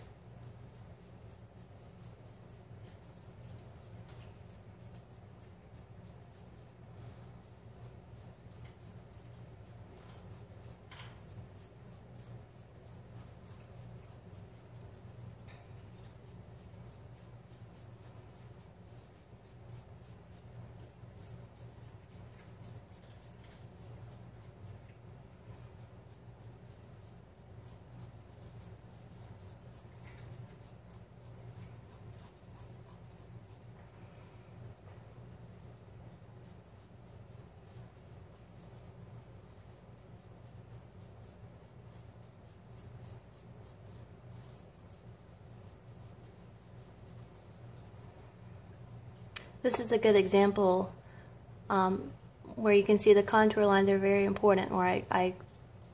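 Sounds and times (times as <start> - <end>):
low steady hum: 0.0 - 55.9
charcoal pencil scratching on paper: 0.3 - 33.8, 35.3 - 47.4.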